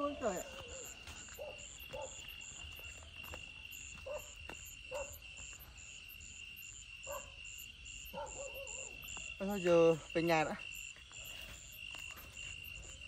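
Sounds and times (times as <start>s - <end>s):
crickets trilling: 0.0s - 13.0s
insect chirping: 0.0s - 13.0s.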